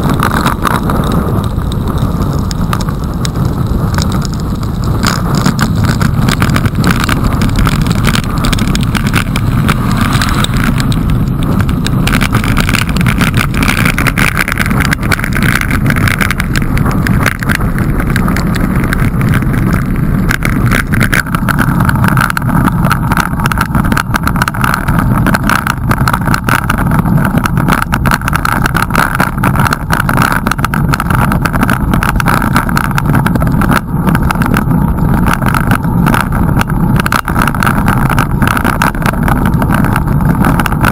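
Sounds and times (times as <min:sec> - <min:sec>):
small crackles: 0:00.0 - 0:40.9
wind rush on microphone: 0:00.0 - 0:40.9.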